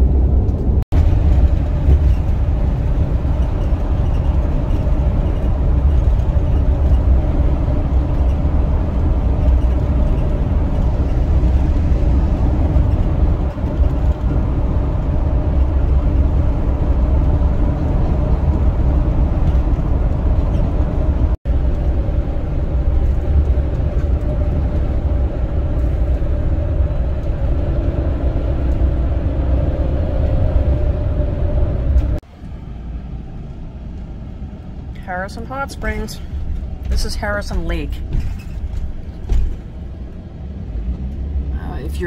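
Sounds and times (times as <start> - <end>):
van road and engine rumble: 0.0 - 42.0.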